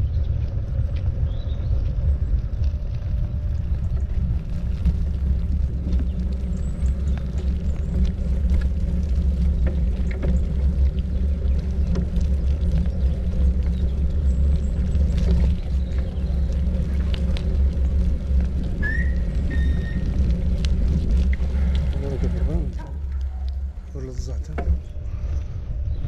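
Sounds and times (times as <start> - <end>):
wind rumble on microphone: 0.0 - 26.0
faint clicks and rattles: 0.3 - 25.5.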